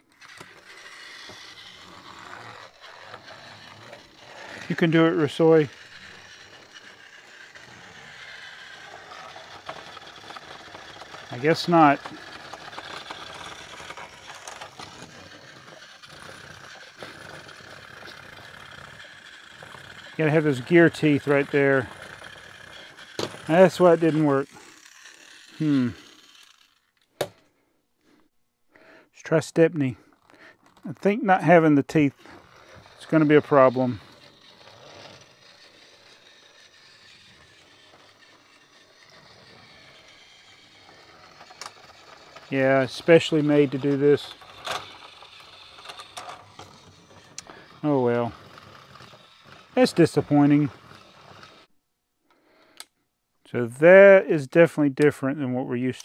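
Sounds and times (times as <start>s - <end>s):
toy train whirring on plastic track: 0.0s - 27.5s, 28.8s - 51.7s, 52.3s - 53.0s, 53.9s - 56.0s.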